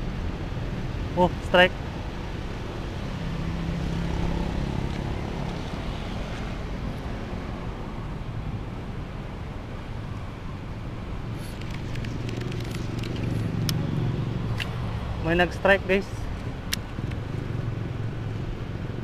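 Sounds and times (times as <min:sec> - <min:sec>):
road traffic noise: 0:00.0 - 0:19.0
vehicle engine hum: 0:00.0 - 0:19.0.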